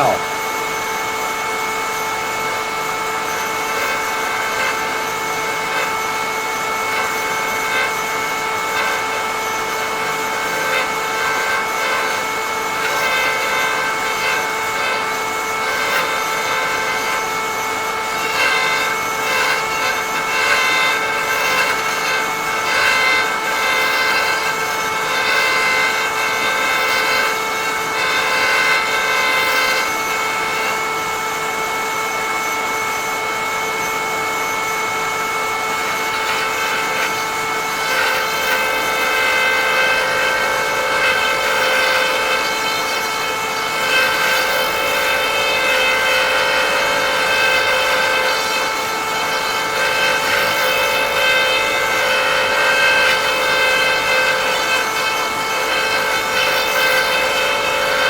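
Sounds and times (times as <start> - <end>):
power cutter whine: 0.0 - 58.0
rough wood cutting noise: 0.0 - 58.0.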